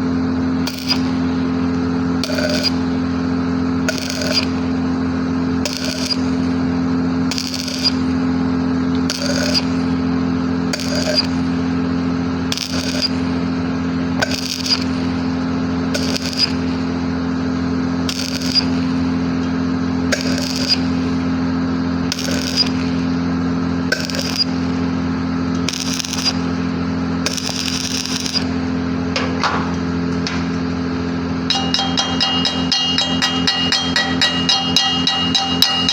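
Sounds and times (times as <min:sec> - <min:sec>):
welding arc crackling and sizzling: 0:00.0 - 0:29.0
welding machine hum: 0:00.0 - 0:35.9.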